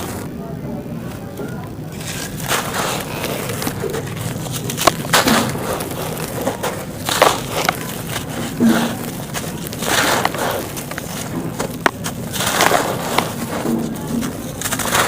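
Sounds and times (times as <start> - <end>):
clay being crushed: 1.1 - 15.0.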